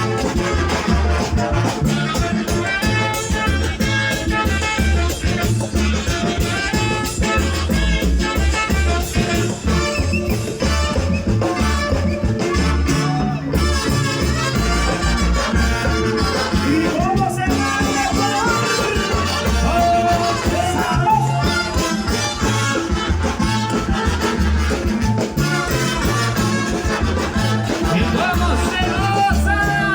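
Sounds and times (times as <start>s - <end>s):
latin dance orchestra playing: 0.0s - 29.9s.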